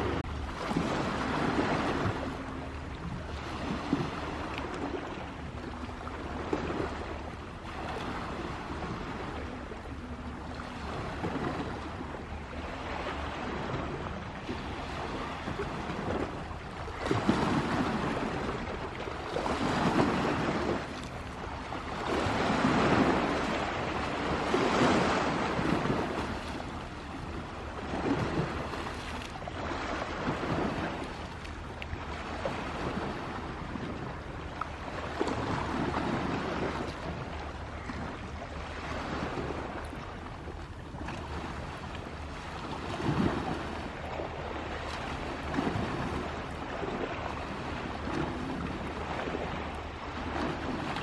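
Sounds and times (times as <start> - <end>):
sea waves washing onto shore: 0.0 - 51.0.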